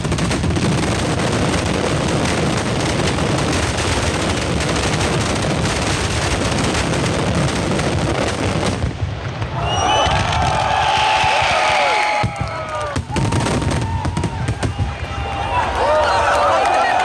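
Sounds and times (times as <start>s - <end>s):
firecrackers banging: 0.0s - 17.0s.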